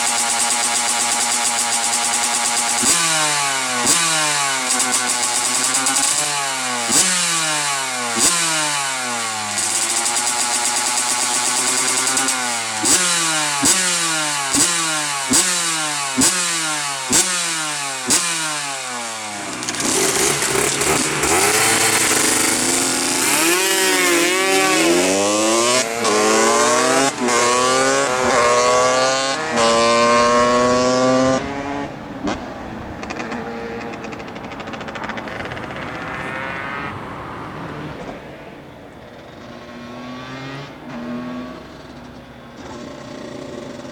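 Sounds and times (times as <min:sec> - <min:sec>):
motorcycle engine revving: 0:00.0 - 0:37.8, 0:39.0 - 0:43.9.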